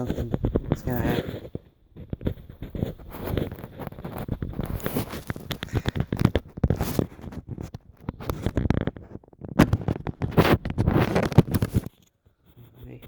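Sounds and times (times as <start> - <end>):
phone handling scraping and clicking: 0.0 - 12.1.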